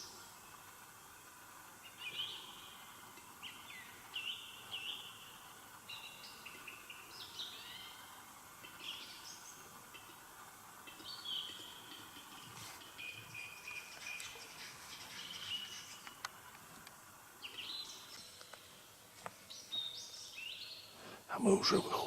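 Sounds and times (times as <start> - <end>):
faint background hiss: 0.0 - 22.0
songbirds singing: 0.0 - 22.0.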